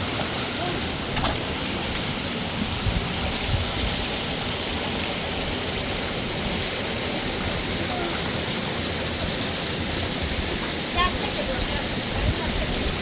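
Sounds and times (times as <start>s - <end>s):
mountain river rushing: 0.0s - 13.0s.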